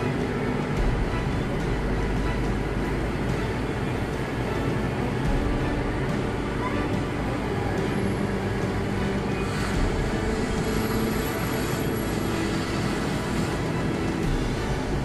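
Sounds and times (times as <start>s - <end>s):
street noise: 0.0s - 15.0s
vehicle engine rumbling: 0.0s - 15.0s.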